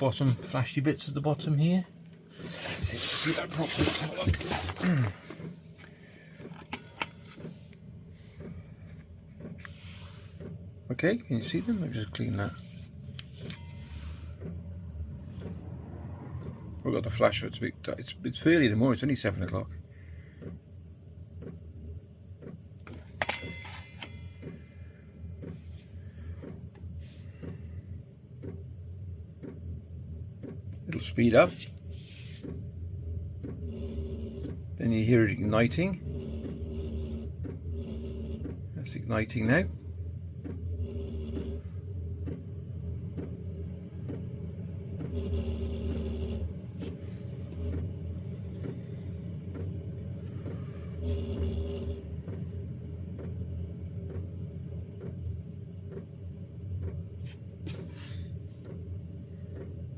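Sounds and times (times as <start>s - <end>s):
heater fan humming: 0.0s - 59.9s
fuel pump ticking: 5.3s - 9.8s, 13.2s - 17.4s, 19.4s - 23.0s, 24.0s - 59.9s.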